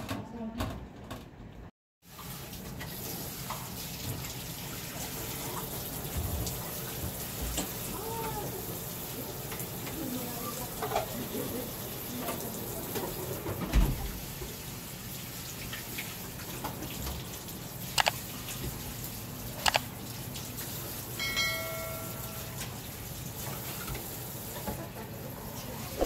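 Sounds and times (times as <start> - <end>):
tap water running into basin: 2.0 - 25.1.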